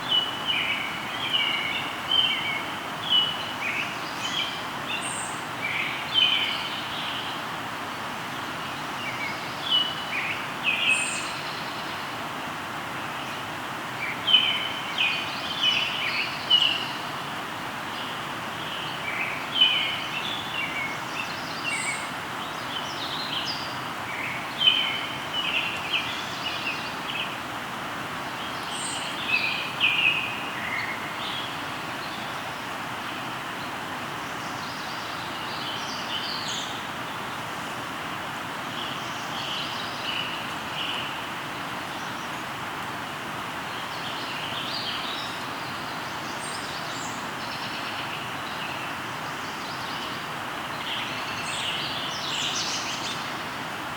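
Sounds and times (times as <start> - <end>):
river water rushing: 0.0 - 53.9
songbirds chirping: 0.0 - 53.9.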